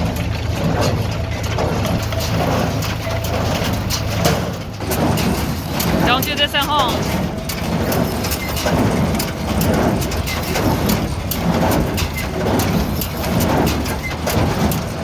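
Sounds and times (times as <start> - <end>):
baler mechanical clatter and clicking: 0.0 - 15.0
tractor engine drone: 0.0 - 15.0.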